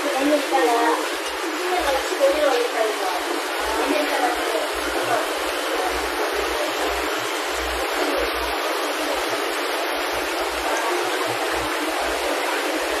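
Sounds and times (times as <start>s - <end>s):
water bubbling: 0.0s - 13.0s
water pouring and splashing: 0.0s - 13.0s.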